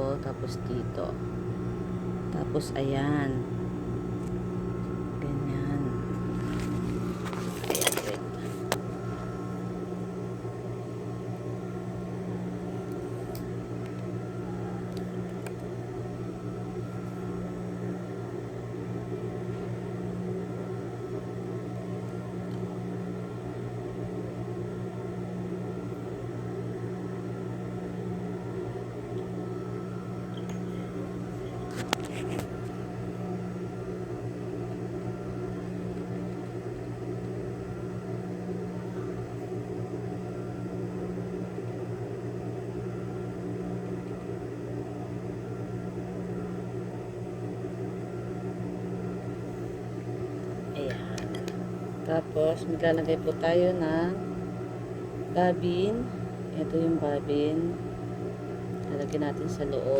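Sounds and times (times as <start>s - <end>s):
steady electric hum: 0.0s - 59.9s.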